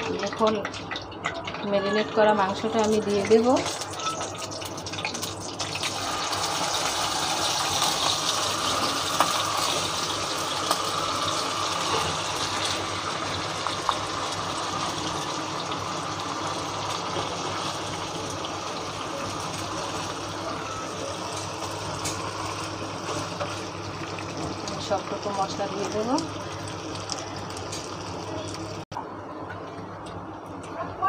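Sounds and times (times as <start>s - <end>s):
chicken sizzling in hot oil: 0.0s - 28.9s.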